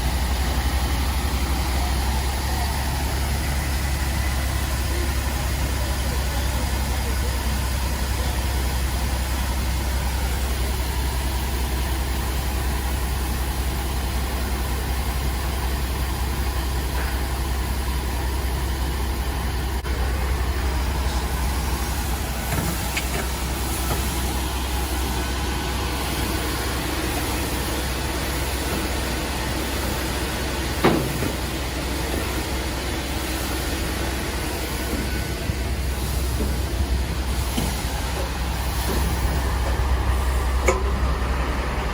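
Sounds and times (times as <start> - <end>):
truck engine and road drone: 0.0 - 41.9.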